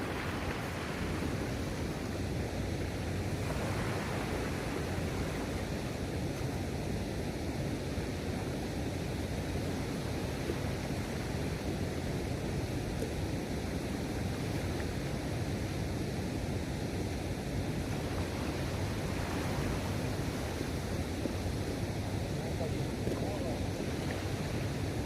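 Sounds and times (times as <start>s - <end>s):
waves washing: 0.0s - 25.0s
wind: 0.0s - 25.0s.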